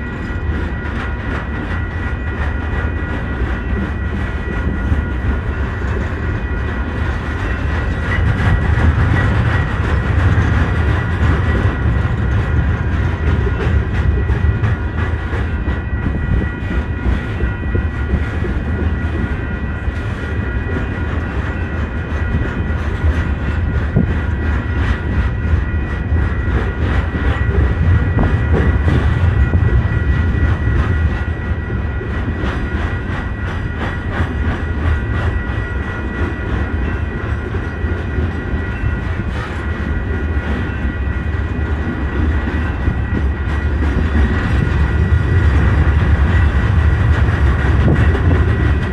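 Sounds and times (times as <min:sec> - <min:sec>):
high-pitched ring: 0:00.0 - 0:47.1
steel wheels rumbling over rail joints: 0:00.0 - 0:48.9.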